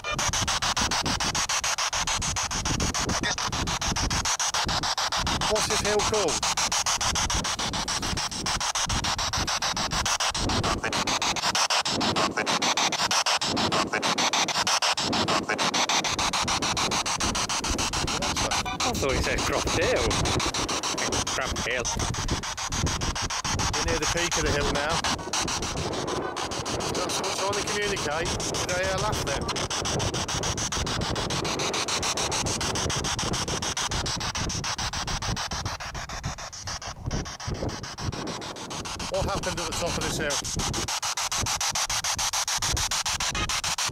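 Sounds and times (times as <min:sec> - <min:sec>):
broken snatches of radio sound: 0:00.0 - 0:43.9
radio static with rapid ticks: 0:00.0 - 0:43.9
rapid even clicks: 0:00.0 - 0:43.9.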